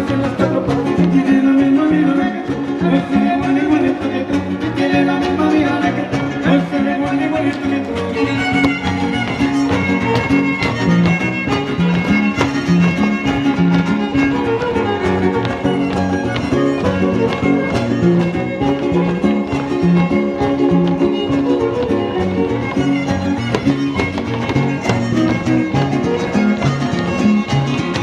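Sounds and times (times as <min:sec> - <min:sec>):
fiddle melody: 0:00.0 - 0:28.0
strummed guitars: 0:00.0 - 0:28.0.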